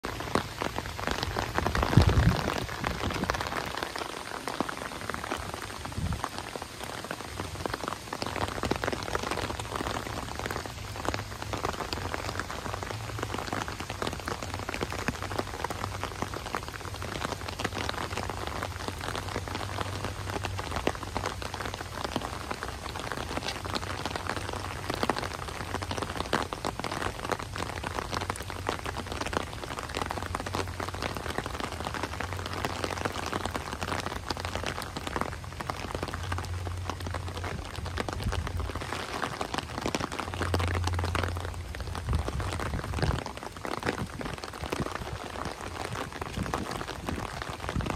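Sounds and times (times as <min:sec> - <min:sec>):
rain pattering on umbrella: 0:00.0 - 0:47.9.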